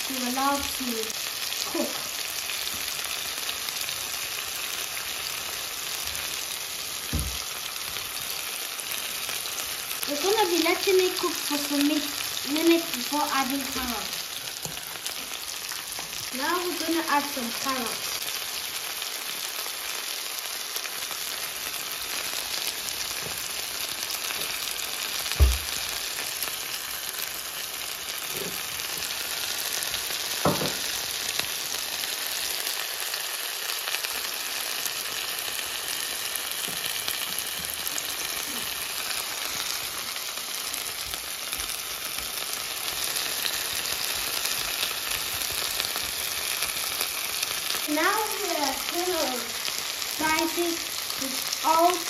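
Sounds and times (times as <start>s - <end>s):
vegetables sizzling in frying pan: 0.0s - 52.0s.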